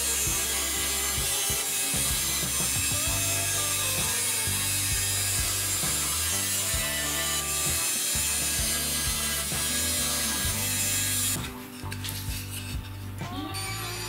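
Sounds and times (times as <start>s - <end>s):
band saw cutting plywood: 0.0s - 14.0s.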